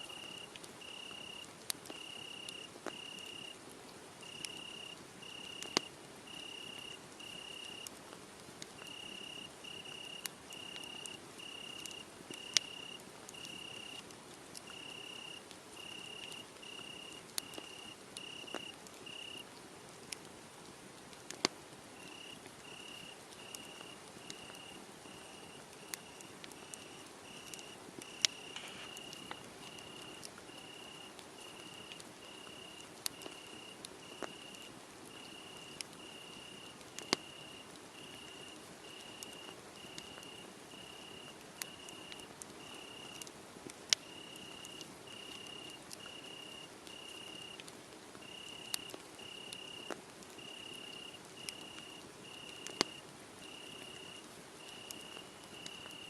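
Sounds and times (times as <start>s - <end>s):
wood fire crackling: 0.0s - 56.0s
crickets chirping: 0.1s - 3.6s, 4.2s - 7.9s, 8.8s - 14.0s, 14.7s - 19.4s, 22.0s - 43.2s, 44.0s - 47.6s, 48.2s - 56.0s.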